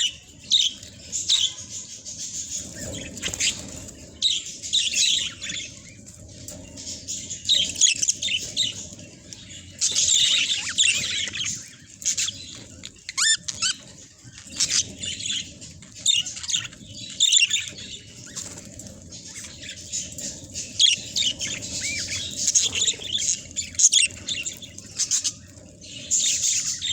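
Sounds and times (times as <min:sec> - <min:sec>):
budgerigars chattering: 0:00.0 - 0:26.9
low background hum: 0:00.0 - 0:26.9.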